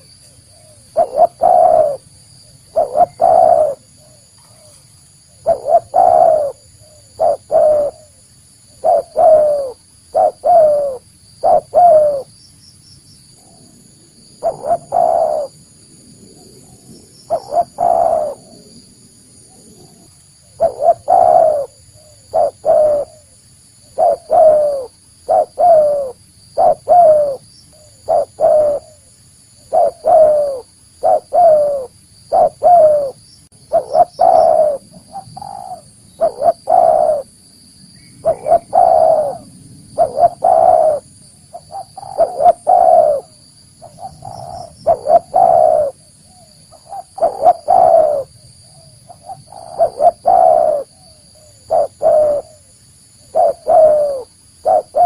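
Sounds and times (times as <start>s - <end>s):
dove cooing: 0.0s - 12.3s, 13.4s - 15.6s, 16.3s - 37.4s, 38.2s - 55.0s.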